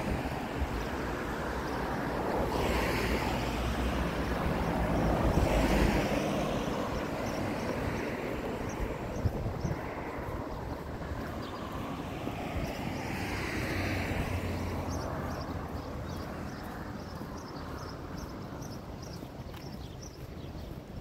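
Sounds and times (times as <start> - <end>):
motor vehicle passing by: 0.0 - 18.7
outdoor traffic noise: 0.0 - 21.0.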